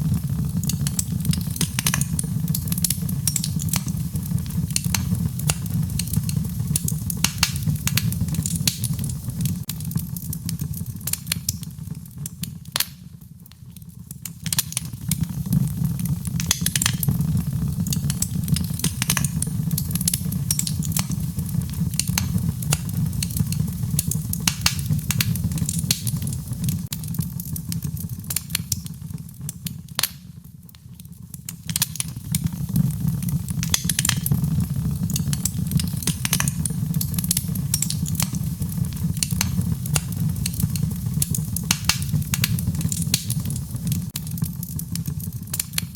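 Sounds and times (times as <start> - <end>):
low fire rumble: 0.0 - 45.9
wood fire crackling: 0.0 - 45.9.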